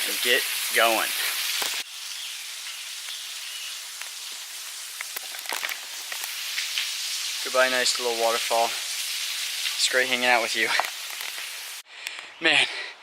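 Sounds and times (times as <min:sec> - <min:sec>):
small waterfall hissing: 0:00.0 - 0:11.9.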